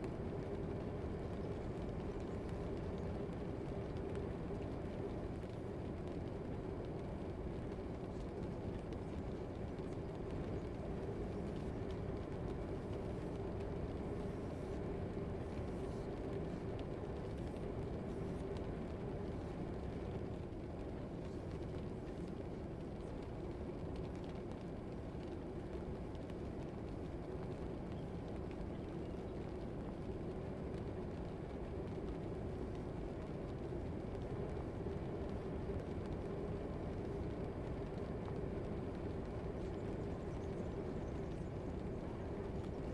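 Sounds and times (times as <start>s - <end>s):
faint steady hum: 0.0s - 42.9s
low ambient rumble: 0.0s - 42.9s.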